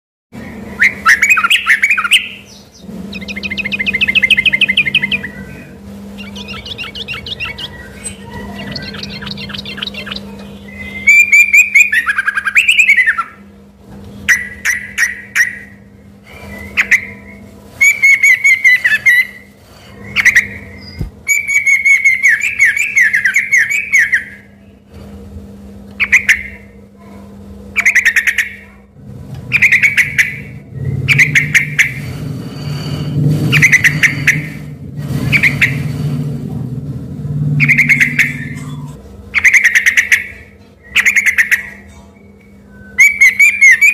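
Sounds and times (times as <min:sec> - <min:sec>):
bulbul singing with rapid trills: 0:00.4 - 0:24.9, 0:25.8 - 0:26.9, 0:27.6 - 0:43.9.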